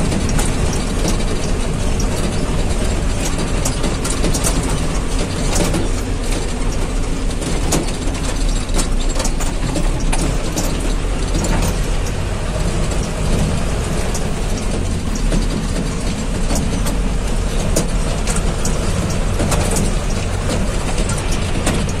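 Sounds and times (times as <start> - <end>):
bus body rattling and knocking: 0.0 - 22.0
bus engine rumble: 0.0 - 22.0.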